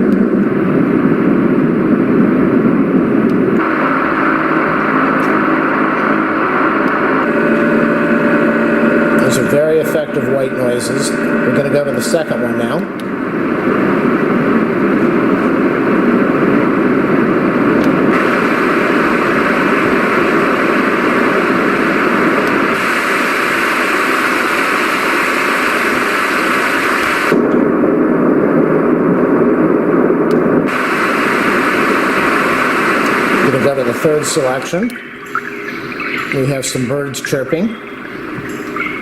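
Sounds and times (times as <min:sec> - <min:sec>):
white noise machine: 0:00.0 - 0:39.0.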